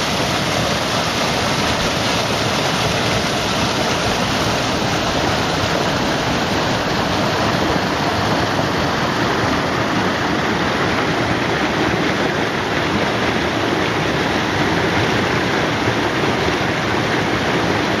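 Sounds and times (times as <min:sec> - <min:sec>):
creek water rushing over rocks: 0:00.0 - 0:18.0.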